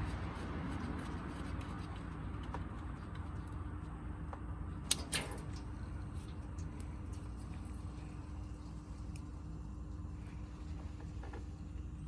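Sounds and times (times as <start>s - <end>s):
low workshop hum: 0.0s - 12.0s.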